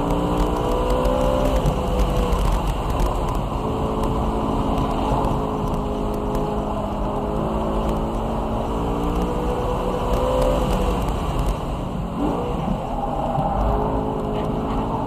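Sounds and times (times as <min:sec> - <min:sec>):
car engine under load: 0:00.0 - 0:15.0
road and wind rumble: 0:00.0 - 0:15.0.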